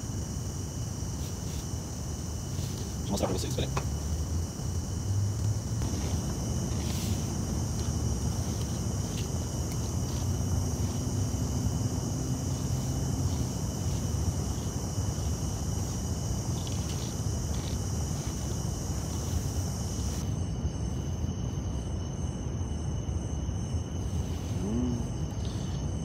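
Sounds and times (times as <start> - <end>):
crickets calling: 0.0 - 26.0.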